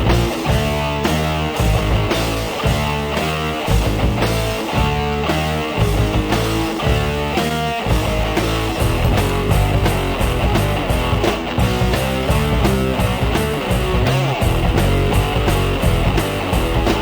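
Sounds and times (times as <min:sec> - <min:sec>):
distorted electric guitar: 0:00.0 - 0:17.0
rock music: 0:00.0 - 0:17.0
steady driving beat: 0:00.0 - 0:17.0.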